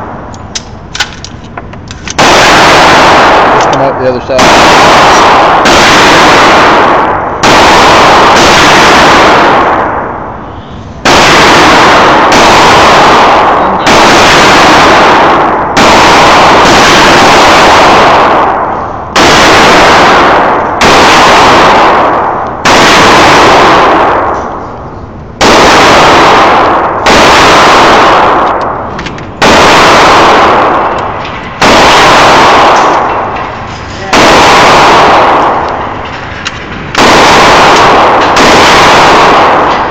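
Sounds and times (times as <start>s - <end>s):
gunshots echoing indoors: 0.0s - 39.9s.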